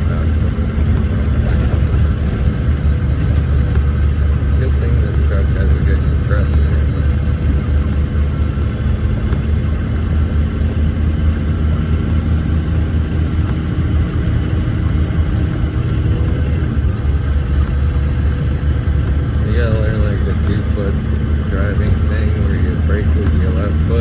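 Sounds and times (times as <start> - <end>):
truck diesel engine drone: 0.0 - 24.0.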